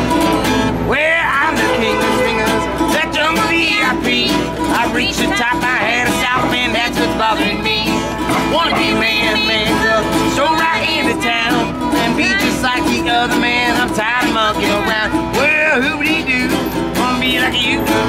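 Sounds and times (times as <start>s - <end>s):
acoustic guitars strumming: 0.0s - 18.0s
man and woman singing: 0.8s - 18.0s.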